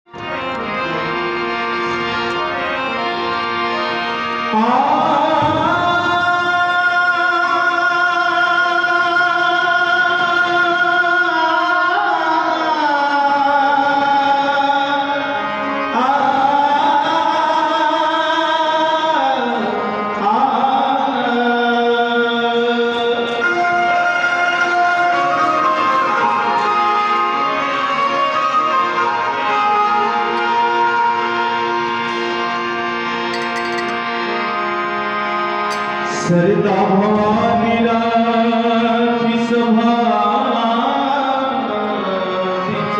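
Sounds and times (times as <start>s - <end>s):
devotional music held notes: 0.1s - 42.9s.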